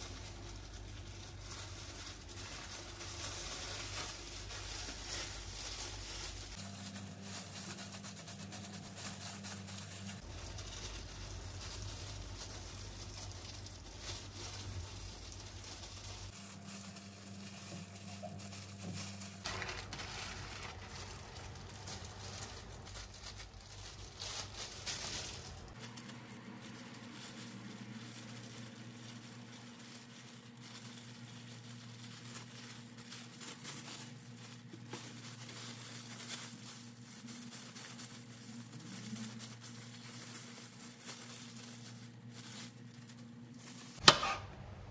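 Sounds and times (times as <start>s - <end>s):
plastic gloves and film crinkling: 0.0s - 44.9s.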